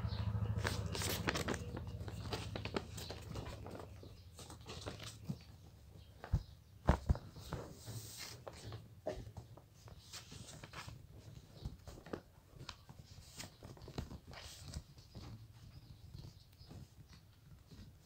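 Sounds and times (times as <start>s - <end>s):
paper rustling and crinkling: 0.5s - 18.0s.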